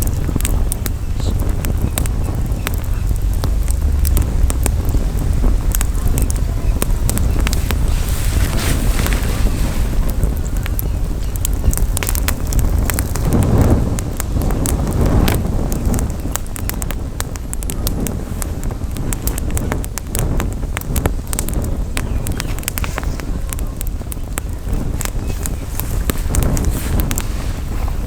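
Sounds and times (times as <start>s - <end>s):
campfire crackling and popping: 0.0s - 28.0s
wind rumble on microphone: 0.0s - 28.0s.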